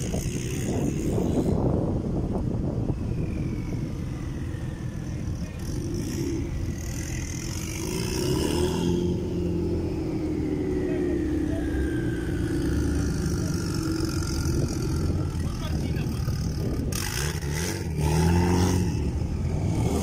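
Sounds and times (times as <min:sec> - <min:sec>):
car engines rumbling at low revs: 0:00.0 - 0:20.0.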